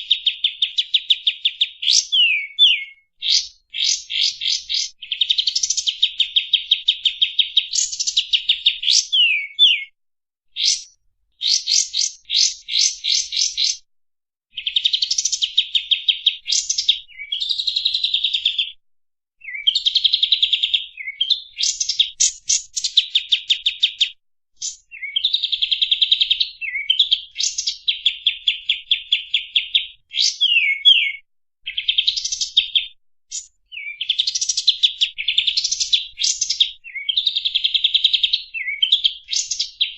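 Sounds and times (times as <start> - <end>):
songbird trilling: 0.2 - 9.9, 10.6 - 13.8, 19.4 - 39.9.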